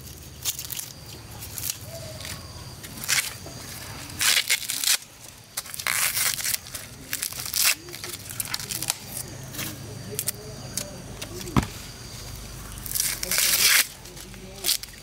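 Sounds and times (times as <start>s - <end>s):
corn husks tearing: 0.0s - 11.6s, 12.7s - 15.0s.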